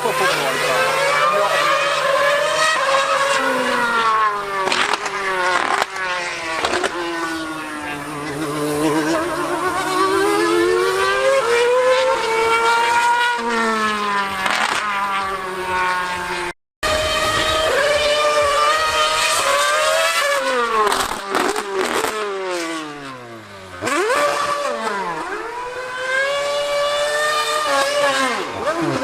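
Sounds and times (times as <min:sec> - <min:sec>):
high-revving racing engine: 0:00.0 - 0:29.0.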